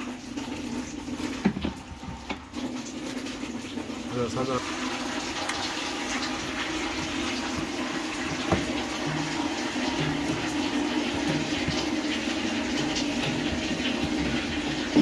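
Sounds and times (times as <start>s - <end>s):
water rushing in washing machine: 0.0s - 15.0s.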